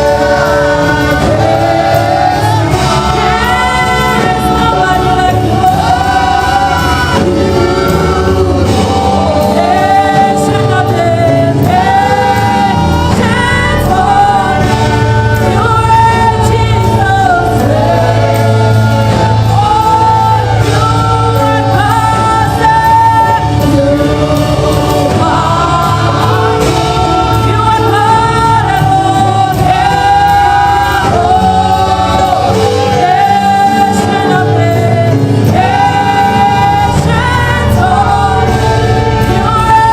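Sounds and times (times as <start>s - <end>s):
bass accompaniment: 0.0s - 39.9s
choir singing: 0.0s - 39.9s.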